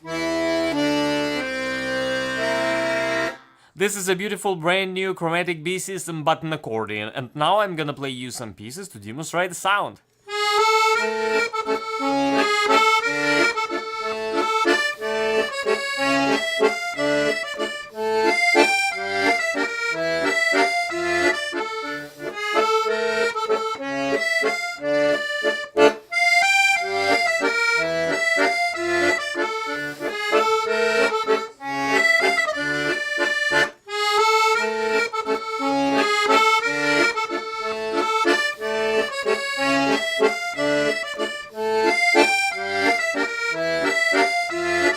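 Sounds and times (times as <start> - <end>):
button accordion playing a tune: 0.0 - 44.9.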